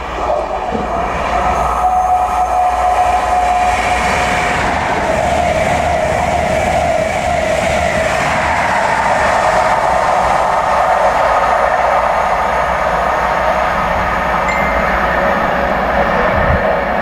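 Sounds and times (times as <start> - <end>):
train rushing on rails: 0.0 - 17.0.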